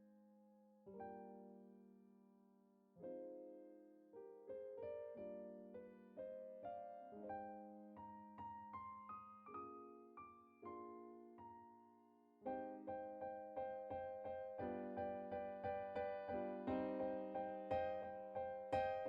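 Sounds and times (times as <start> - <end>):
soft piano music: 0.0 - 19.0.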